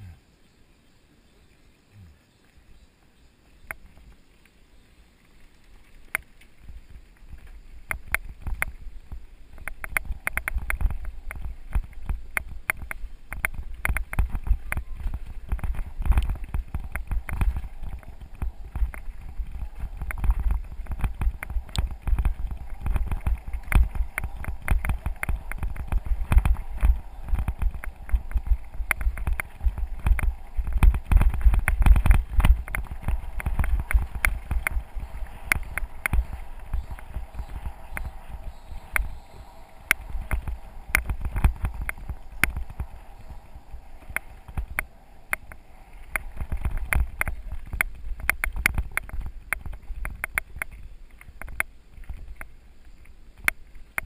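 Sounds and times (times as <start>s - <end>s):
bike tyres rattling on gravel: 3.4s - 54.0s
wind rumble on microphone: 3.6s - 54.0s.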